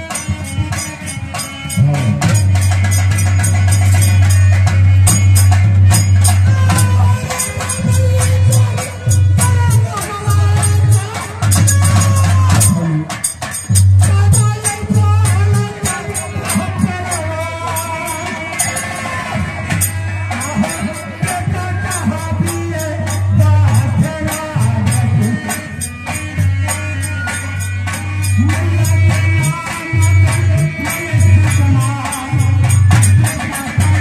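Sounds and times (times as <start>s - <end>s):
fast percussion beat: 0.0s - 34.0s
man singing: 5.9s - 34.0s.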